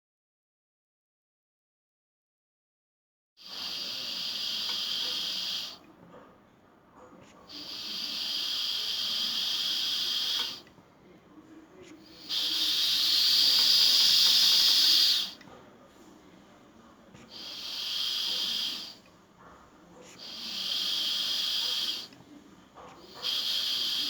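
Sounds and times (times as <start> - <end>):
ventilator air hissing: 3.4 - 6.3, 7.0 - 24.0.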